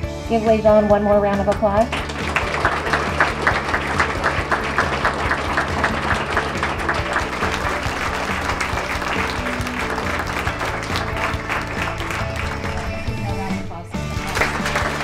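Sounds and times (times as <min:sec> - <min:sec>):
background music: 0:00.0 - 0:15.0
sharp close claps: 0:01.3 - 0:13.0, 0:14.2 - 0:15.0
audience applauding: 0:01.8 - 0:13.3, 0:14.1 - 0:15.0.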